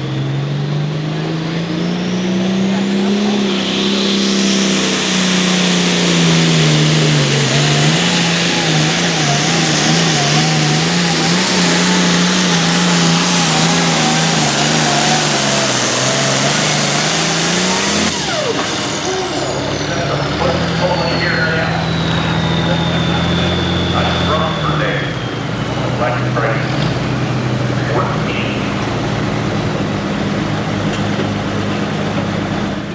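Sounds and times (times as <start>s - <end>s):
diesel tractor engine under load: 0.0s - 32.9s
turbo whine: 0.0s - 32.9s.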